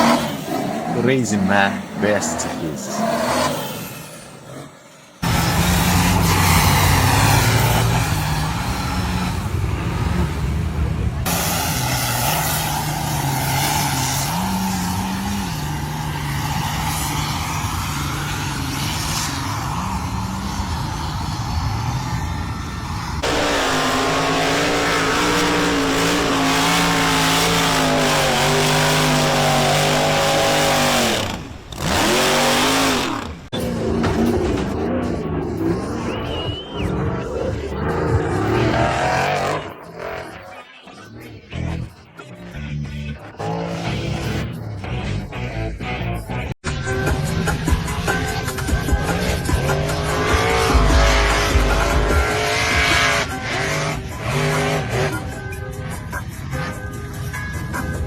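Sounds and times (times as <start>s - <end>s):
truck engine running loud: 0.0s - 40.4s, 42.6s - 58.0s.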